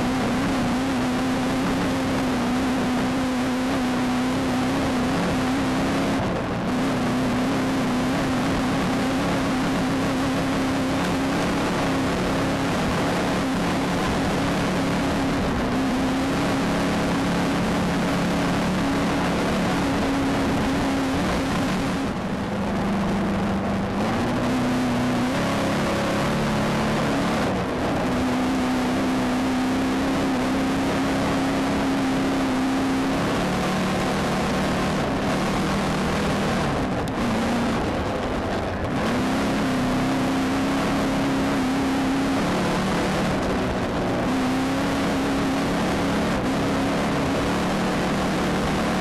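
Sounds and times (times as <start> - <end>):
race car engine running hard: 0.0 - 49.0.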